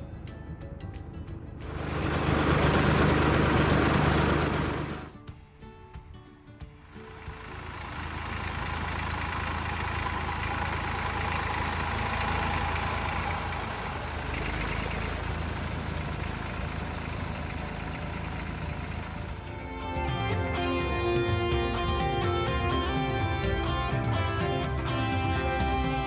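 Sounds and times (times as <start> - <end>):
tractor engine running: 0.0 - 5.2, 6.8 - 25.1.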